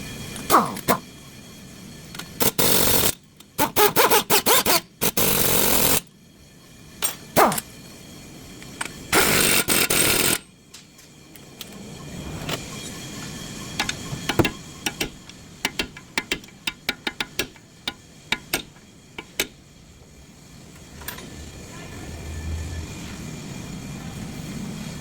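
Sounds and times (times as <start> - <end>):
low steady hum: 4.8 - 25.0.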